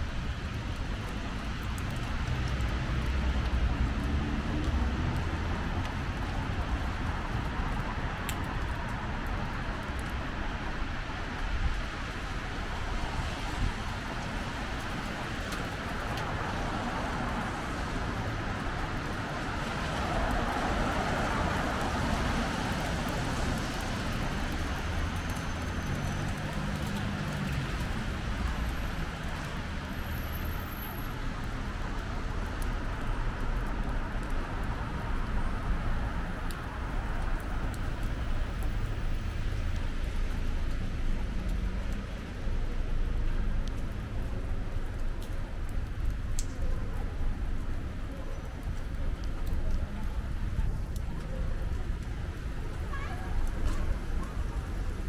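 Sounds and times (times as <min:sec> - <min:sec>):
cars passing on wet road: 0:00.0 - 0:55.0.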